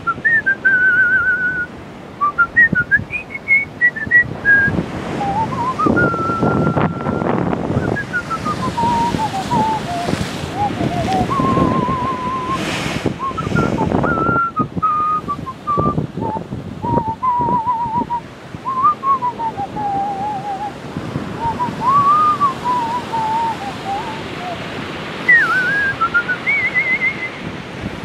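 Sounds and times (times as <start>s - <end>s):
surf: 0.0s - 28.0s
wind gusts on microphone: 0.0s - 28.0s
person whistling a tune: 0.1s - 12.6s, 13.2s - 20.7s, 21.4s - 24.6s, 25.2s - 27.4s.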